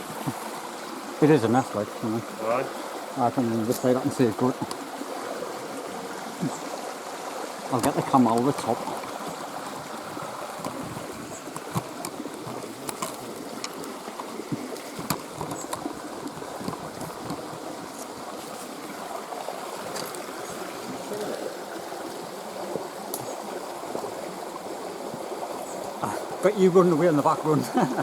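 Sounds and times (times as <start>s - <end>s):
stream babbling: 0.0s - 28.0s.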